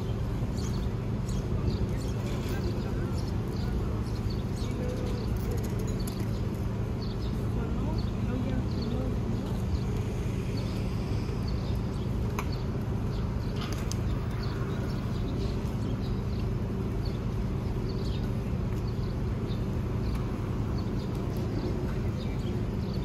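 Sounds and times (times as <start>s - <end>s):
birds chirping: 0.0s - 23.0s
traffic rumble: 0.0s - 23.0s.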